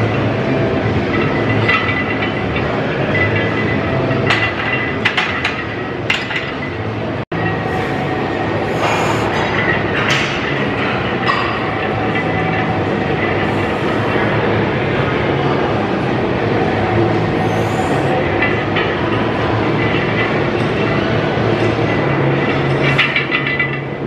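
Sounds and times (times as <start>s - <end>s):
loud steady background noise: 0.0s - 24.0s.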